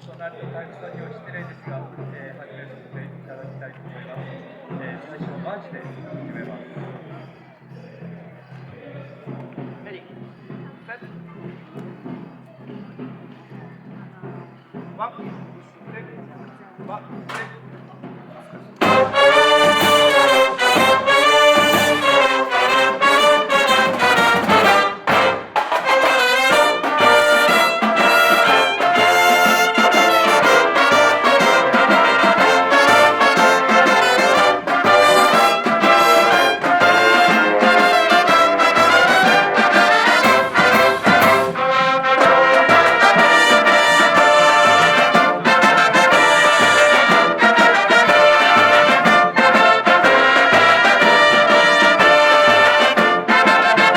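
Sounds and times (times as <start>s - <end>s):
steady drum beat: 0.4s - 53.9s
marching band brass: 3.1s - 53.9s.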